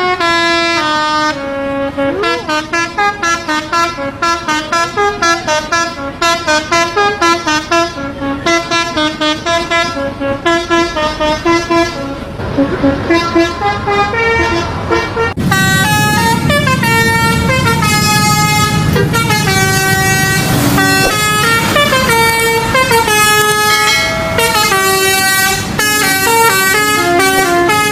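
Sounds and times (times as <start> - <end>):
musical air horn tune: 0.0 - 27.9.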